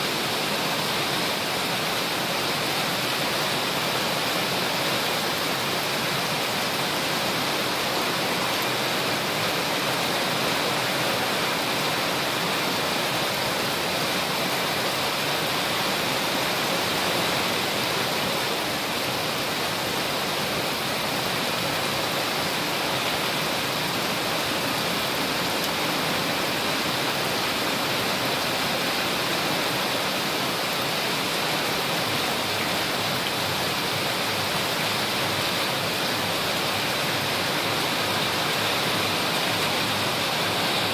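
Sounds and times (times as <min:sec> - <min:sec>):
heavy rain on standing water: 0:00.0 - 0:40.9.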